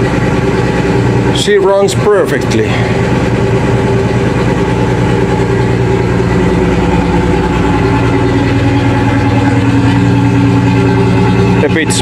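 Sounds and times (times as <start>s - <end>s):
boat diesel engine idling: 0.0s - 12.0s.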